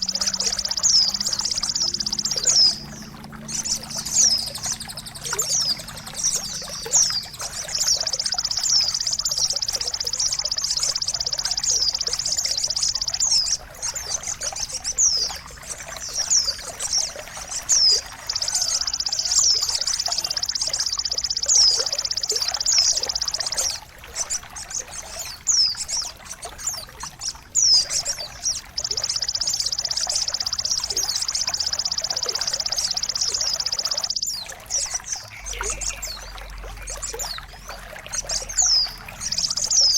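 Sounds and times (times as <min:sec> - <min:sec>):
songbird trilling and whistling: 0:00.0 - 0:39.9
trickling water: 0:00.0 - 0:39.9.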